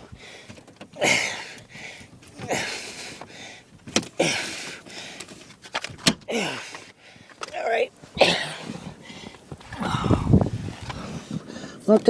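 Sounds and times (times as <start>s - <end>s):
heavy exhales with groans: 0.0s - 5.3s, 6.3s - 7.3s, 8.1s - 11.9s
woman breathing hard: 0.0s - 5.3s, 6.3s - 7.4s, 8.4s - 11.8s.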